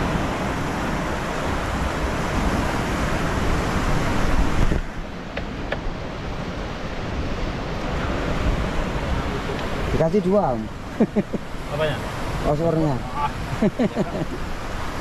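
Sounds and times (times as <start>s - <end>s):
sea surf washing against rocks: 0.0s - 15.0s.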